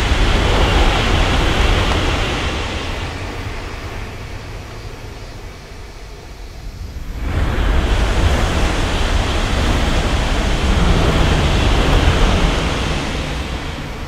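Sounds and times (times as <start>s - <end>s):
high-speed train passing: 0.0s - 14.0s
rush of air and wheel noise: 0.0s - 14.0s.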